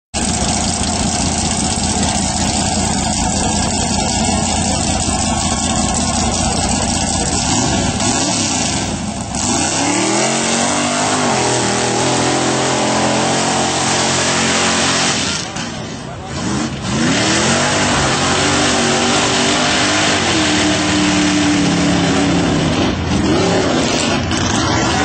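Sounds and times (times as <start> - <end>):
off-road vehicle engine revving: 0.2 - 25.0.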